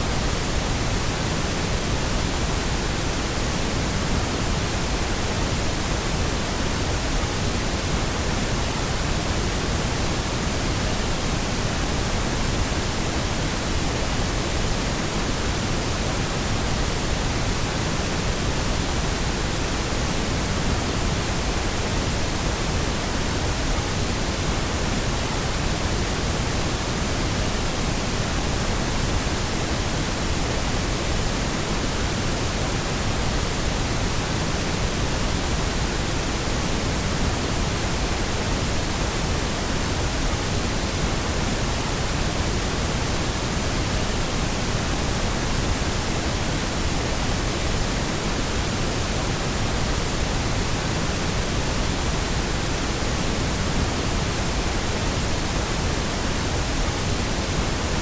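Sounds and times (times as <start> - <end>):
pink noise hiss: 0.0 - 58.0.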